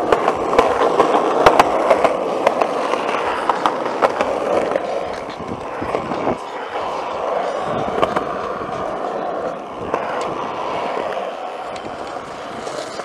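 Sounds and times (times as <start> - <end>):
skateboard decks clacking: 0.0 - 13.0
skateboard wheels rolling: 0.0 - 13.0.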